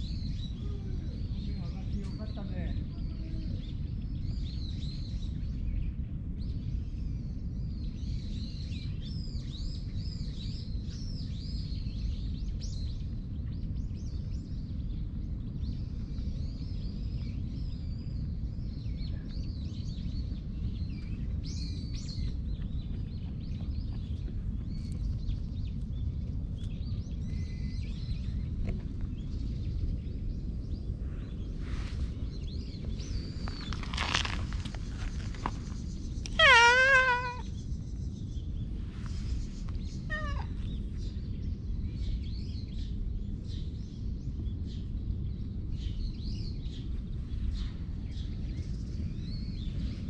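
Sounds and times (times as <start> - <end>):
low outdoor rumble: 0.0 - 50.0
small birds chirping: 0.0 - 50.0.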